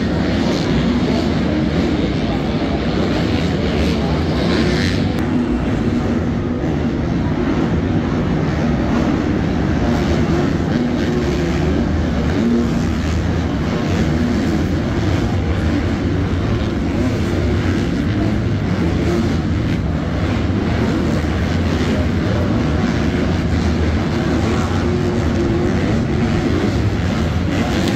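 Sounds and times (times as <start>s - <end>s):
motorbike engines revving: 0.0s - 27.9s.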